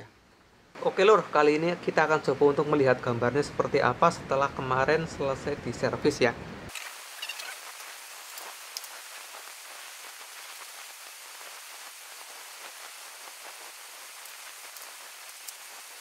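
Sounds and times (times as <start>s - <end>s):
steady rain: 0.0s - 5.9s, 6.6s - 16.0s.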